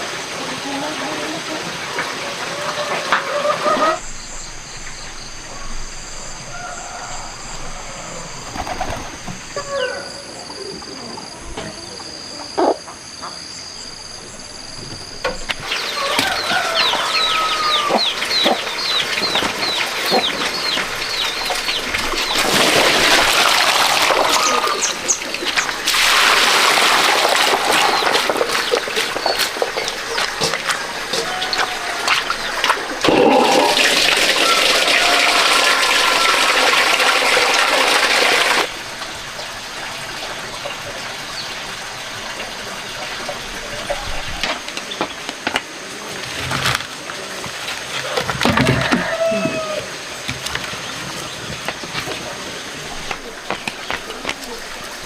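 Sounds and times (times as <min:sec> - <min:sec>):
chickens and birds calling: 0:00.3 - 0:38.7, 0:47.0 - 0:55.0.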